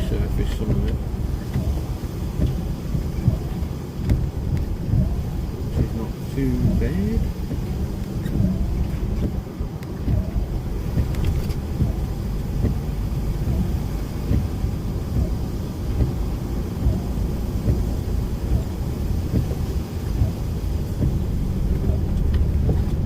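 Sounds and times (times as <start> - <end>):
lorry diesel engine rumble: 0.0 - 23.0
tyre and road noise: 0.0 - 23.0.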